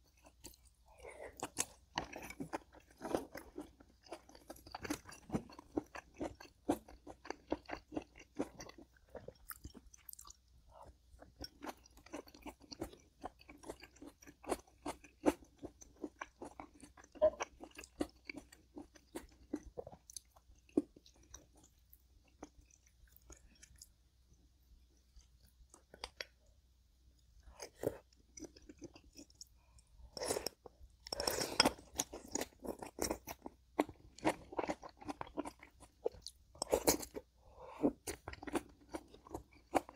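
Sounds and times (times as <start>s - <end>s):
person chewing crunchy food: 0.0s - 24.0s, 24.8s - 26.5s, 27.2s - 39.9s.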